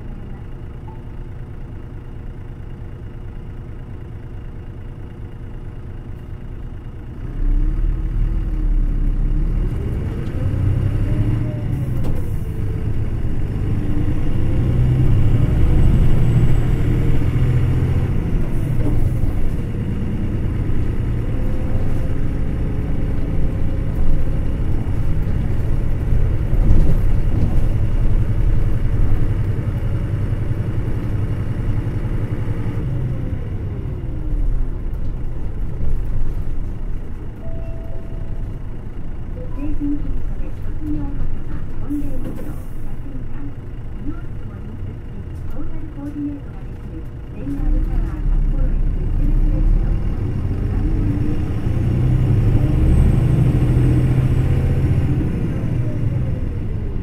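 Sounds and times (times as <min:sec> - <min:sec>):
bus accelerating: 0:00.0 - 0:57.0.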